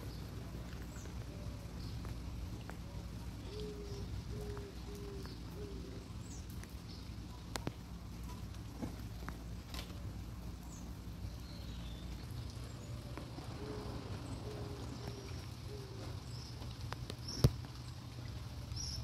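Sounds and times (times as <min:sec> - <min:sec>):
birds calling: 0:00.0 - 0:19.0
light rain pattering: 0:00.0 - 0:19.0
sharp water drips: 0:00.0 - 0:19.0.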